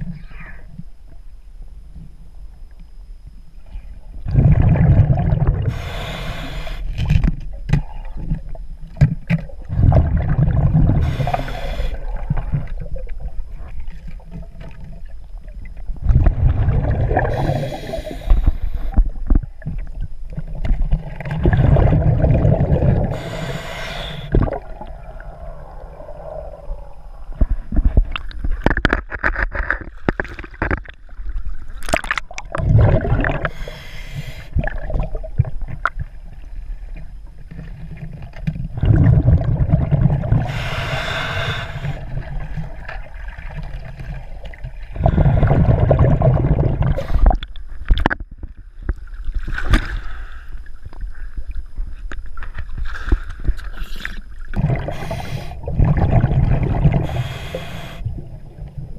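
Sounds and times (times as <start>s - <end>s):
exhaled bubbles rumbling underwater: 0.0s - 29.2s, 29.9s - 58.9s.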